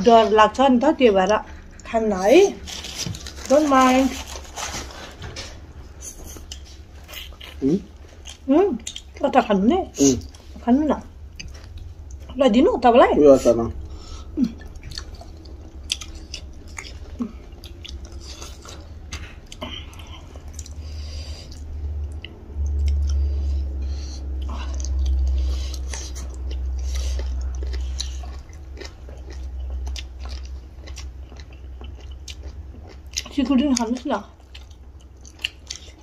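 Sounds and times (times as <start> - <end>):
low rumble: 0.0 - 33.3
people chewing food: 0.0 - 36.0.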